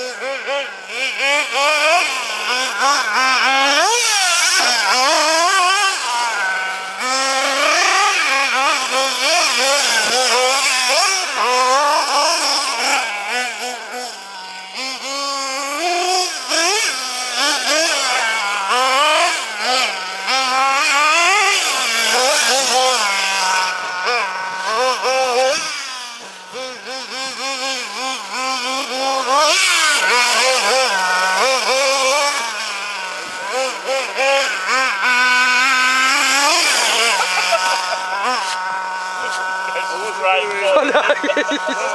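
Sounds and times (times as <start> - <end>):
nitro engine revving: 0.0 - 41.9.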